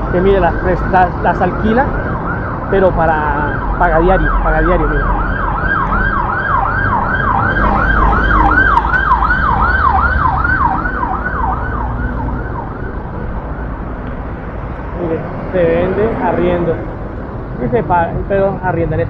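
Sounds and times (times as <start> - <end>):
emergency siren yelping: 0.0 - 15.5
low street traffic rumble: 0.0 - 19.0.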